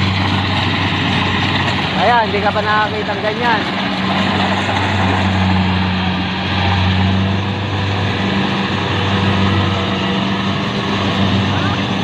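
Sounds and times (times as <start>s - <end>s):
harvesting machinery rushing: 0.0s - 12.0s
low engine hum: 0.0s - 12.0s.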